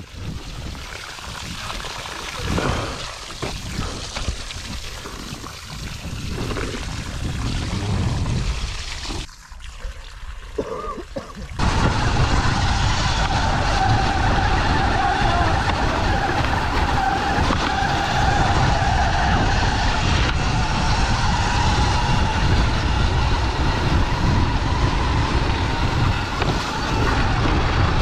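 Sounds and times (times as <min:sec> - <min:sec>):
wind rumble on microphone: 0:00.0 - 0:09.3, 0:11.6 - 0:28.0.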